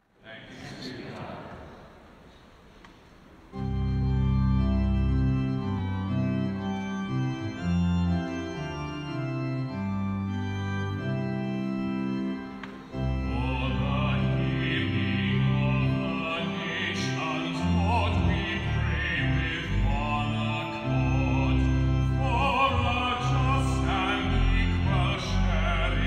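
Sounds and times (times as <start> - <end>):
church organ playing chords: 3.5 - 26.0.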